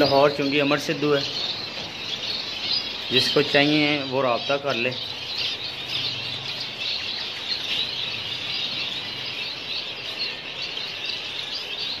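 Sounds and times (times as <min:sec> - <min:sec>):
finches chirping and twittering: 0:00.0 - 0:12.0.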